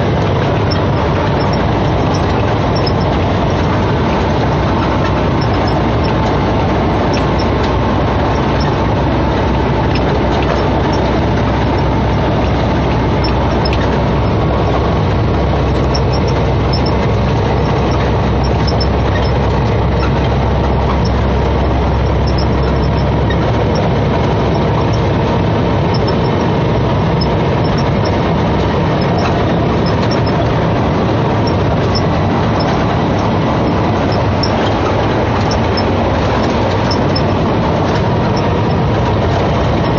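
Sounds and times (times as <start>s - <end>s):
road noise hiss: 0.0s - 39.9s
truck diesel engine rumble: 0.0s - 39.9s.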